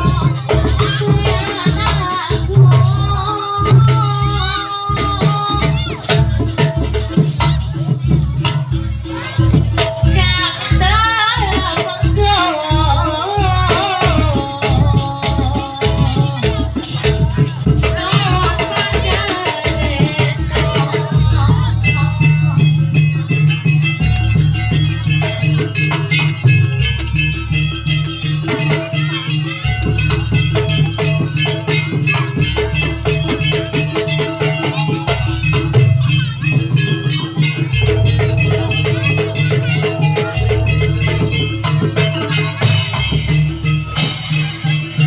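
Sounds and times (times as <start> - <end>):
percussion ensemble music: 0.0 - 45.0.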